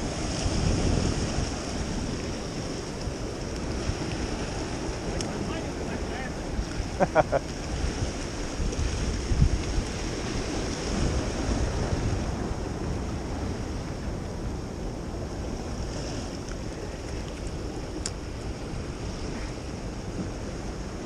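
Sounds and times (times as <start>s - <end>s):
surf washing over rocks: 0.0s - 21.0s
wind buffeting microphone: 0.0s - 21.0s.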